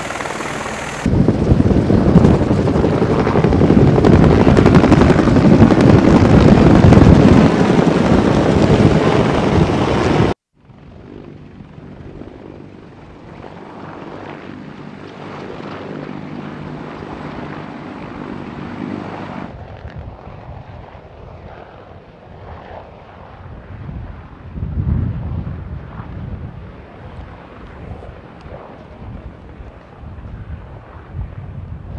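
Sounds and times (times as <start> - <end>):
distant helicopters running: 0.0 - 31.9
helicopter rotor and turbine: 0.0 - 31.9.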